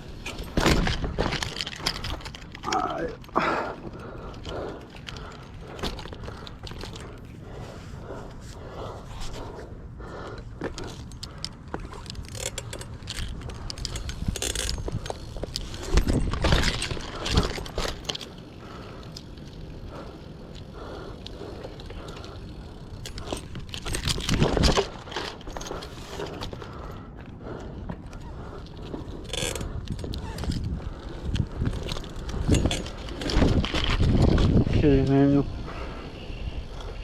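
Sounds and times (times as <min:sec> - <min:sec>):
bicycle parts rattling and clicking: 0:00.0 - 0:37.0.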